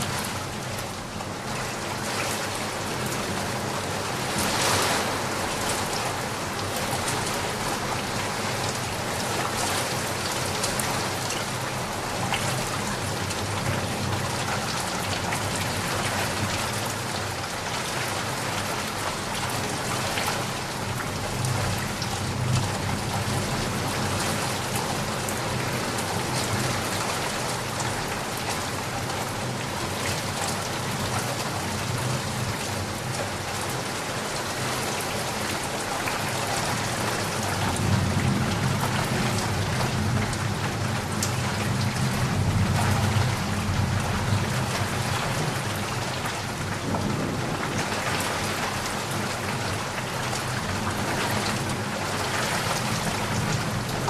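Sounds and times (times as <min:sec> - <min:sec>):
rain pattering on surfaces: 0:00.0 - 0:54.0.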